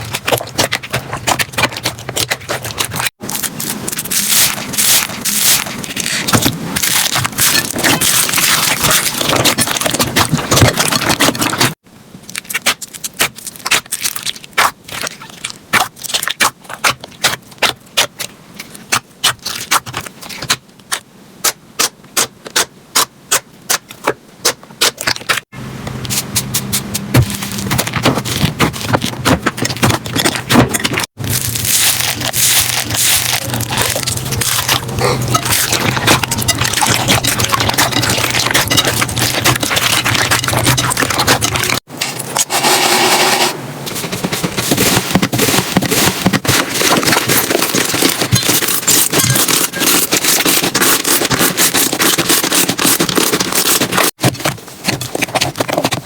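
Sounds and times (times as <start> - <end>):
slime squishing: 0.0 - 42.3, 43.9 - 56.0.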